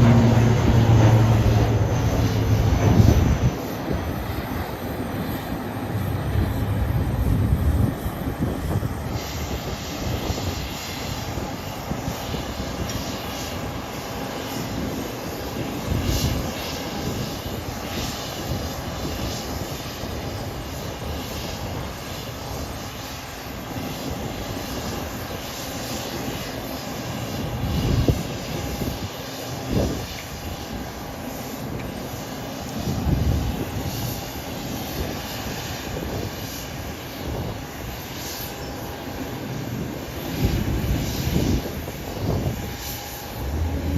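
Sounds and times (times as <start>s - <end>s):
airliner engines rumbling: 0.0s - 43.9s.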